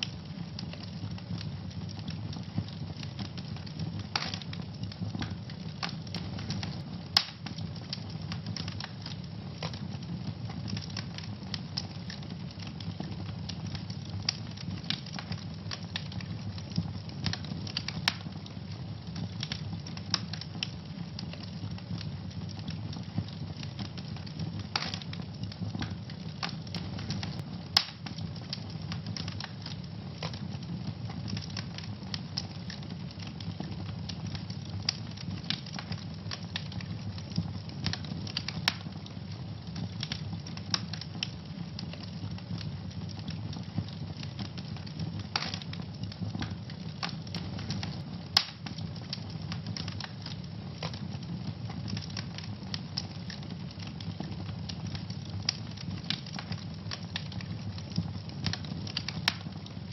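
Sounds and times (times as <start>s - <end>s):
loud pops of fire: 0.0s - 59.9s
low rumble of fire: 0.0s - 59.9s
wood fire crackling: 0.0s - 59.9s.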